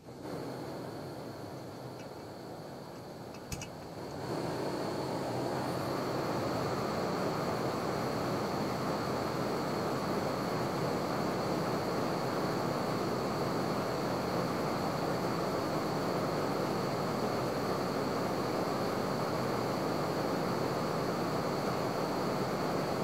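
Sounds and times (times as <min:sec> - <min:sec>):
gas stove burners roaring: 0:00.0 - 0:23.0.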